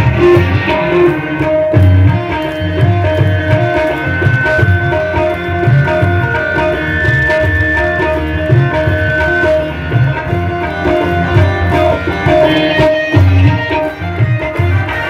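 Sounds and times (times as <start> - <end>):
crowd clapping along: 0.0 - 15.0
hand drum beating: 0.0 - 15.0
held melodic notes: 0.0 - 15.0.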